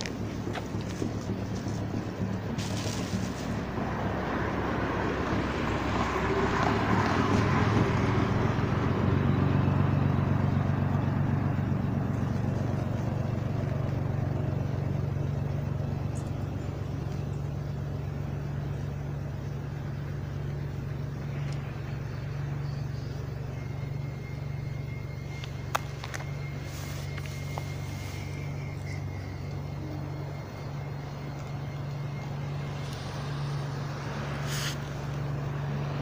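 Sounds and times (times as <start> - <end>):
vehicle engine hum: 0.0 - 36.0.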